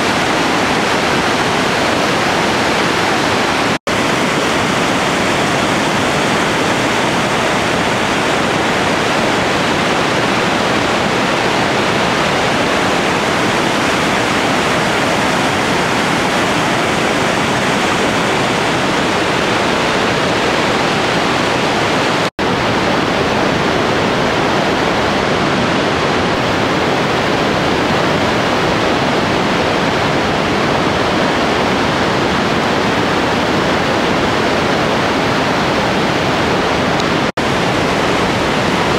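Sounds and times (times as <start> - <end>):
whitewater rushing over rapids: 0.0 - 38.9.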